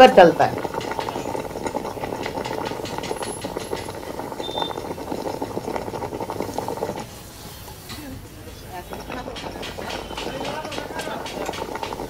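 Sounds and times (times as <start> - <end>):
tea sizzling in a hot clay cup: 0.0 - 12.0.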